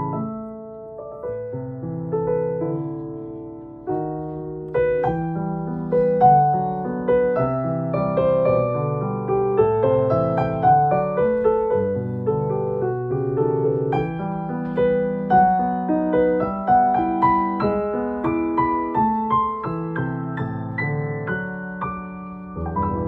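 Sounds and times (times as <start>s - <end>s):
piano melody over chords: 0.0s - 23.0s.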